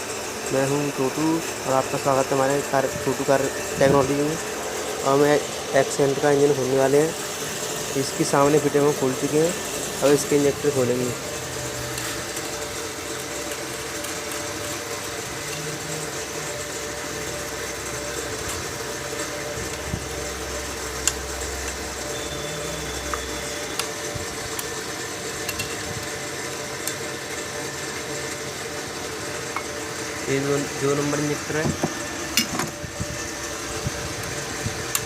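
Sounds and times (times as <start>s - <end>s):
workshop mechanical hum and hiss: 0.0s - 35.0s.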